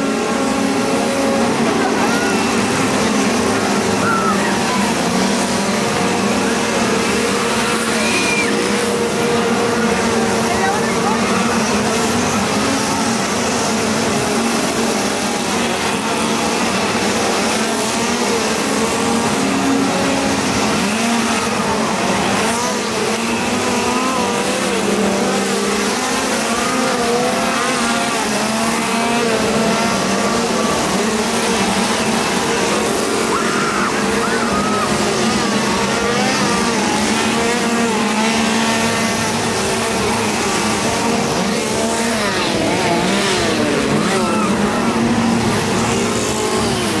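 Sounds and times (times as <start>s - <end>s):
chainsaws revving: 0.0s - 47.0s
crowd voices: 0.0s - 47.0s.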